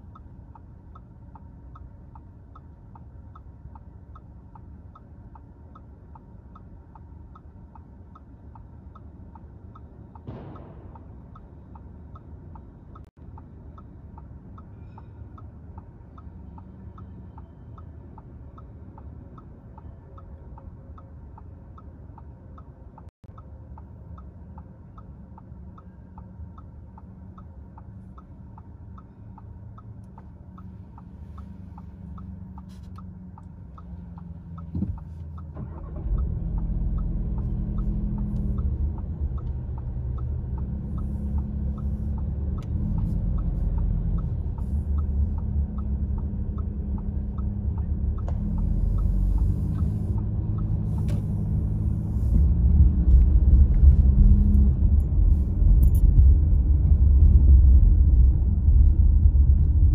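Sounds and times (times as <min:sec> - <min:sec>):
car engine and road rumble: 0:00.0 - 0:59.9
turn signal clicking: 0:00.0 - 0:59.9.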